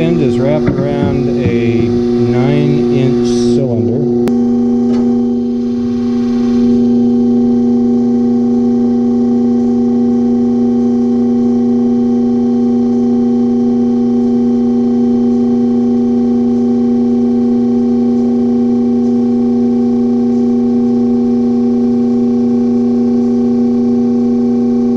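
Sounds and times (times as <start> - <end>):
test rig steady hum: 0.0 - 24.9.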